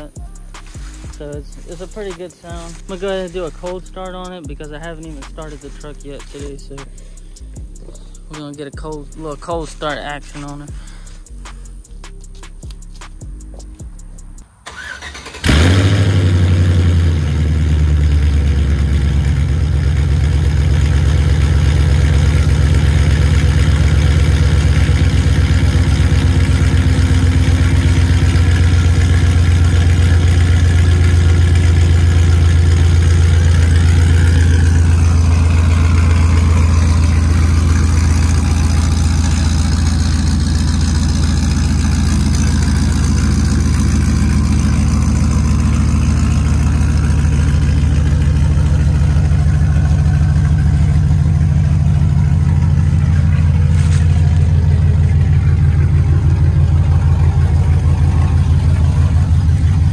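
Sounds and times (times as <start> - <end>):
pickup engine idling: 0.0 - 59.9.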